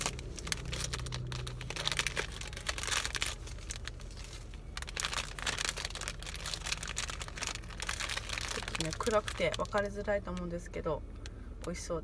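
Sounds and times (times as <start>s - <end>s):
plastic wrapper crinkling: 0.0s - 11.3s.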